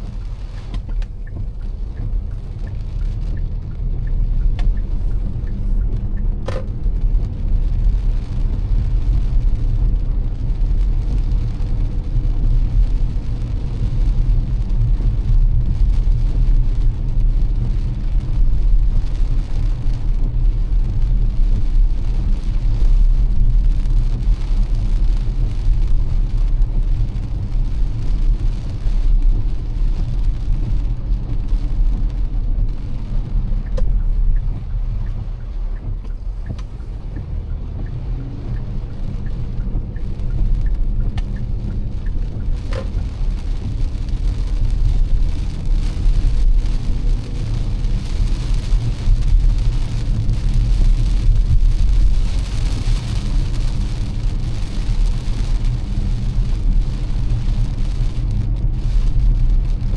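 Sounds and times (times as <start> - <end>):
rain and tyre spray hiss: 0.0 - 59.9
road and engine rumble: 0.0 - 59.9.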